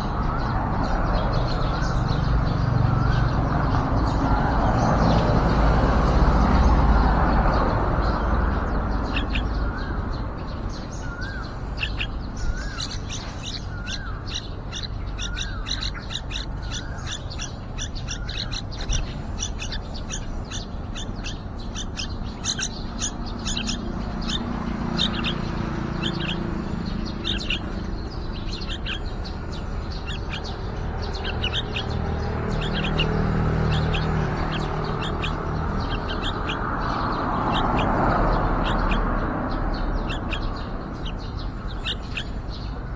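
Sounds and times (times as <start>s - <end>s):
lower wavering bird notes: 0.0s - 42.9s
nestlings chirping: 0.0s - 42.9s.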